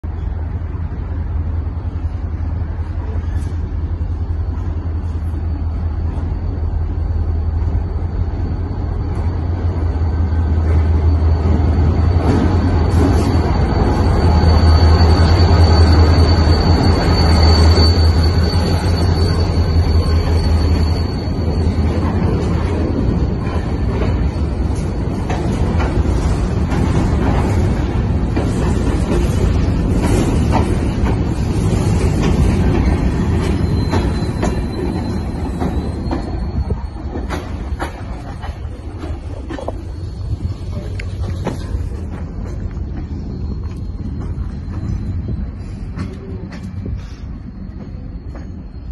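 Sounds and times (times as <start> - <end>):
locomotive engine rumbling: 0.0 - 48.9
high wheel squeal: 2.8 - 48.9.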